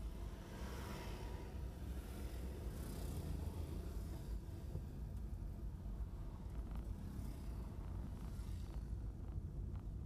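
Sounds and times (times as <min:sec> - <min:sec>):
low rumble of moving vehicle: 0:00.0 - 0:10.0.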